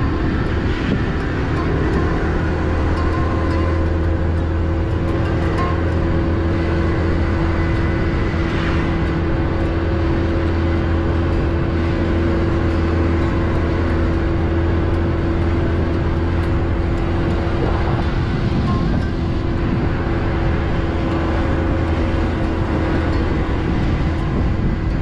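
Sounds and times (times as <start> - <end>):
vehicle engine humming: 0.0 - 25.0
wind noise: 0.0 - 25.0.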